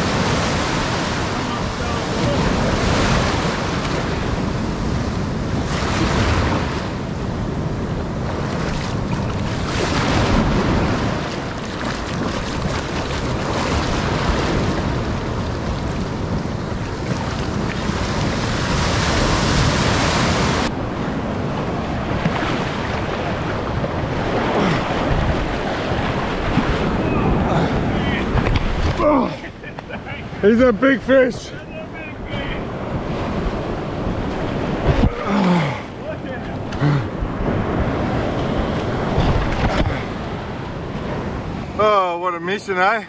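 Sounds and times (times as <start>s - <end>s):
wind buffeting microphone: 0.0s - 29.8s, 32.1s - 41.6s
ocean surf washing up beach: 0.0s - 43.0s.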